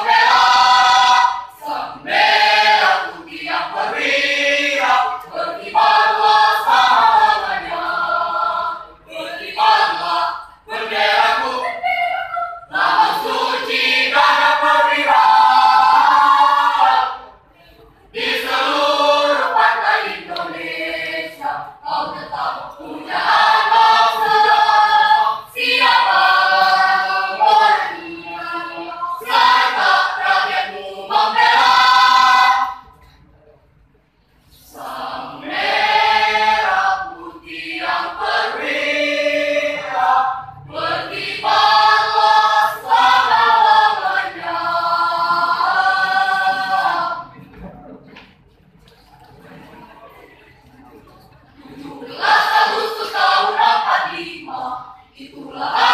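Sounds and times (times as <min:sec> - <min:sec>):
mixed choir singing: 0:00.0 - 0:33.0, 0:34.4 - 0:47.8, 0:51.4 - 0:55.9.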